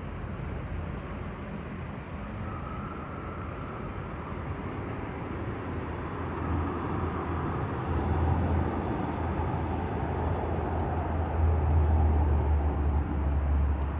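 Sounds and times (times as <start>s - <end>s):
urban background rumble: 0.0s - 13.9s.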